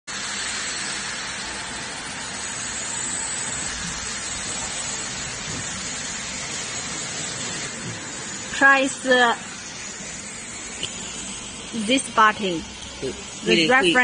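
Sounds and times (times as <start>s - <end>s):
steady rushing hiss: 0.1s - 14.0s.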